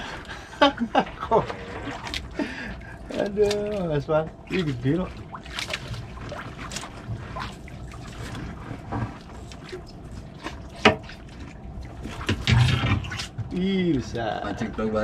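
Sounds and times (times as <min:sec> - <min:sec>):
boat engine hum: 0:00.0 - 0:15.0
water lapping: 0:00.0 - 0:15.0.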